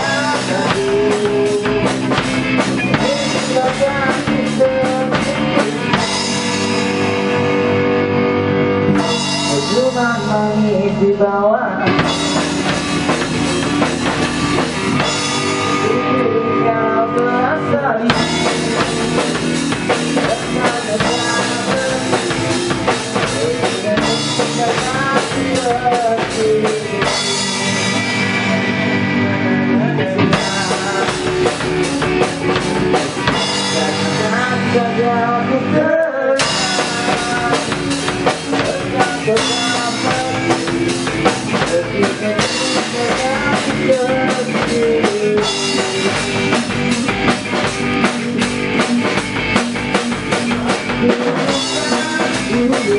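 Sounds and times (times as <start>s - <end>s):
rock song with drums and guitars: 0.0s - 52.9s.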